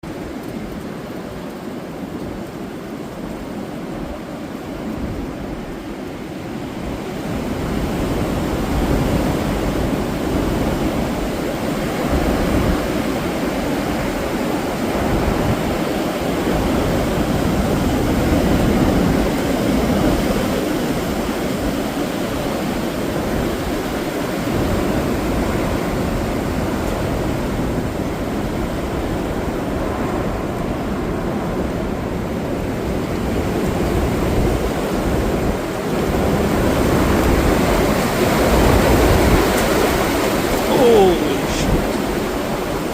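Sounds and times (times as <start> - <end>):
strong wind buffeting microphone: 0.1 - 42.9.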